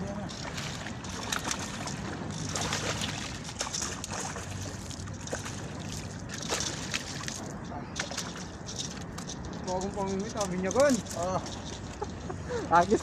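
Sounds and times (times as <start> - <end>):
water lapping at shoreline: 0.0 - 13.0.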